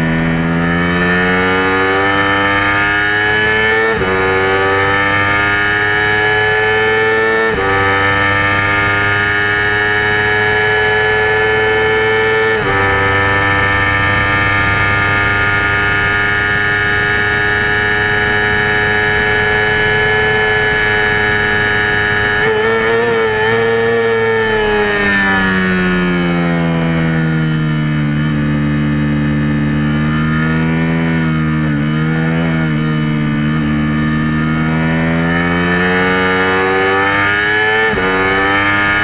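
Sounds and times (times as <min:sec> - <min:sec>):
motorcycle engine at high revs: 0:00.0 - 0:39.0.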